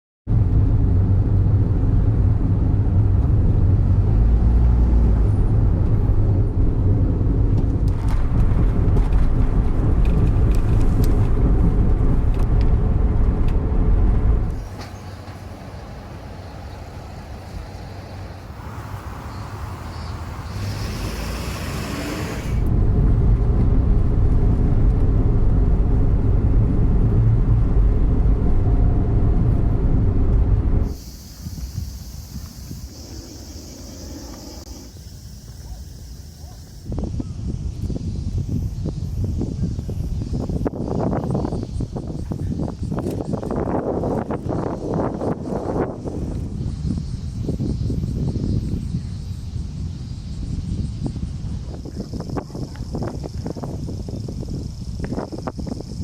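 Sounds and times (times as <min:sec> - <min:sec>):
car engine rumble: 0:00.3 - 0:56.0.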